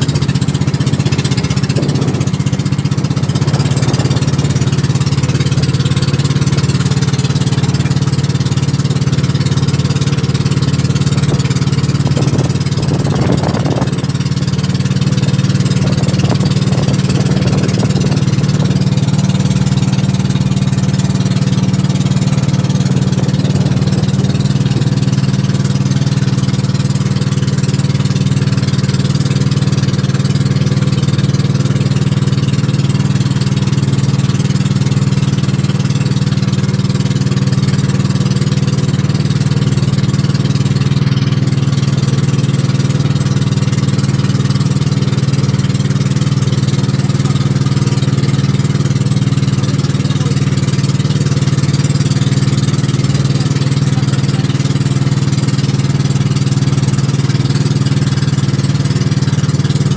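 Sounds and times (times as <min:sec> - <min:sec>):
boat engine droning: 0:00.0 - 0:59.9
water rushing: 0:00.0 - 0:59.9
wind: 0:00.0 - 0:59.9.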